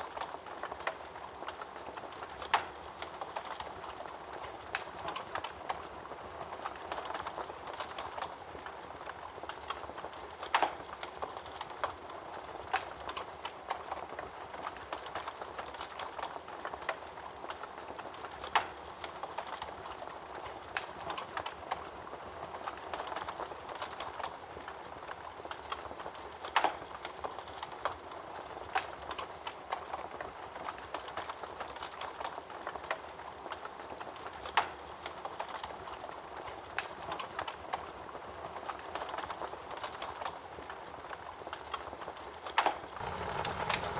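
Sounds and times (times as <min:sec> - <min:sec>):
fire crackling: 0:00.1 - 0:43.9.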